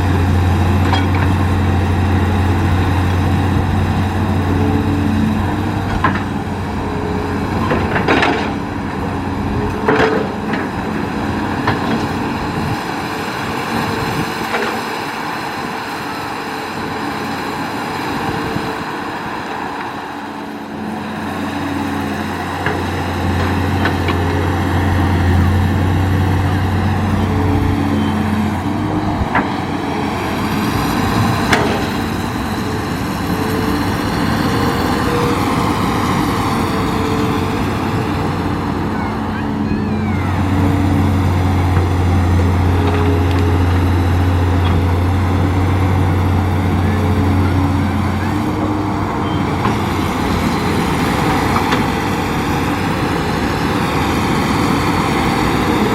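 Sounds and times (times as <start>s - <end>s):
excavator diesel engine droning: 0.0s - 55.9s.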